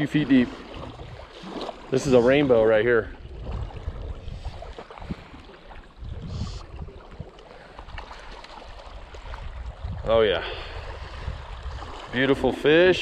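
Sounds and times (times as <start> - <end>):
wind rumbling on microphone: 0.4 - 1.4, 2.0 - 13.0.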